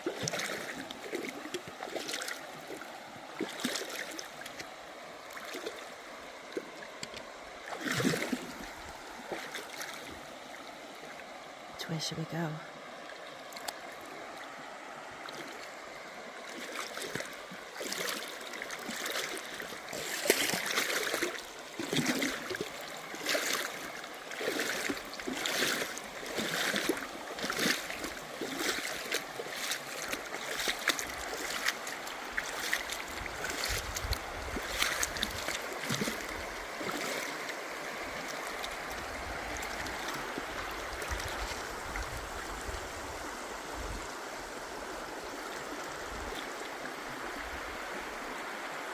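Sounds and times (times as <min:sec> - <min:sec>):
river water flowing: 0:00.0 - 0:48.9.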